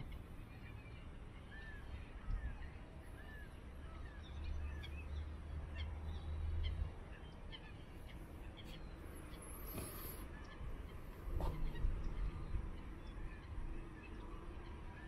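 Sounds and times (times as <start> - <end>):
distant waterbirds calling: 0.0 - 15.0.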